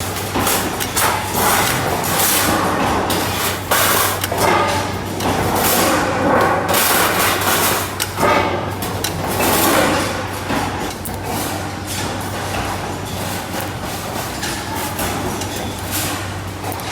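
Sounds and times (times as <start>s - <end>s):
factory machinery humming: 0.0s - 16.9s.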